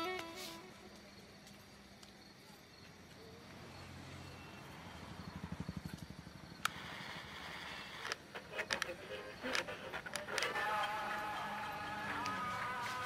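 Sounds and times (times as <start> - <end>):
faint radio hiss: 0.0 - 5.7, 6.3 - 13.0.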